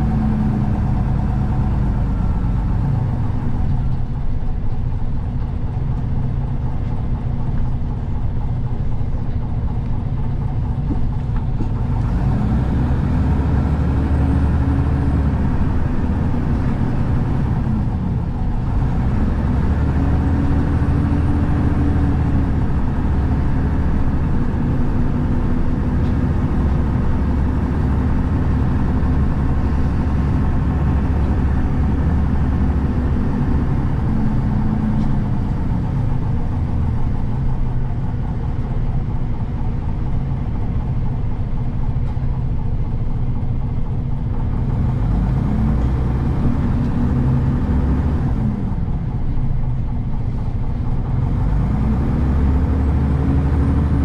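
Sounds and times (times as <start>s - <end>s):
bus engine droning: 0.0s - 54.0s
road noise: 0.0s - 54.0s.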